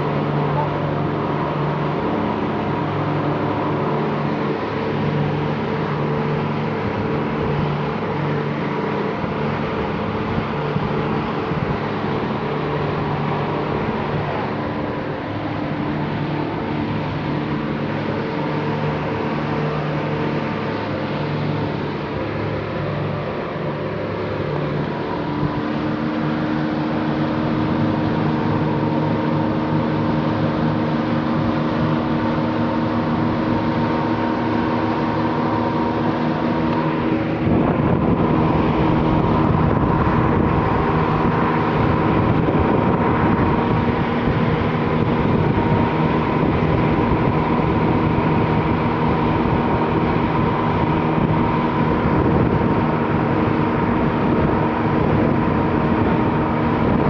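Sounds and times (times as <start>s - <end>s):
motorboat engine running: 0.0s - 57.0s
rushing water from boat wake: 0.0s - 57.0s
wind buffeting microphone: 2.6s - 23.1s, 24.8s - 57.0s.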